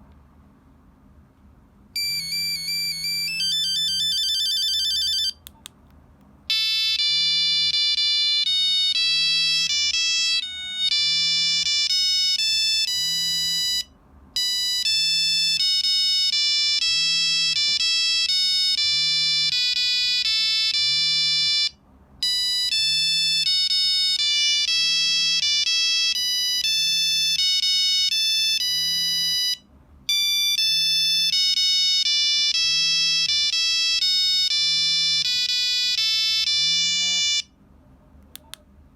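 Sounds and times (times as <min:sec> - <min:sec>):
mobile phone ringtone beeping melody: 0:02.0 - 0:05.4, 0:06.5 - 0:37.5.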